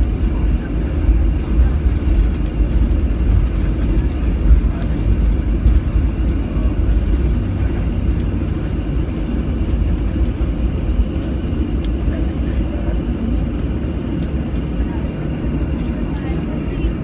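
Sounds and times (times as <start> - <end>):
aircraft engines idling: 0.0 - 17.0.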